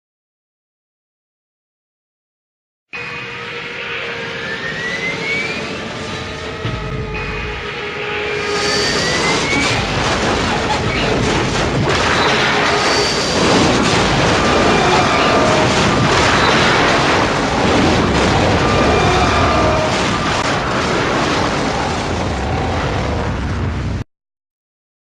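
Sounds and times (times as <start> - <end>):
jet engine roar: 3.0 - 24.0.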